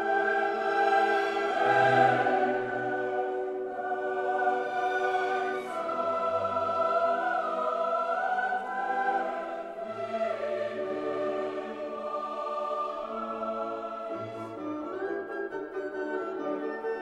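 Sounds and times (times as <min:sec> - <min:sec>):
choral music: 0:00.0 - 0:17.0.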